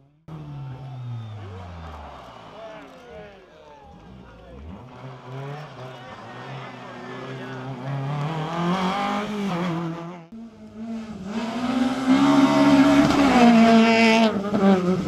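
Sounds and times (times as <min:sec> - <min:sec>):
rally car engine revving: 0:00.3 - 0:15.0.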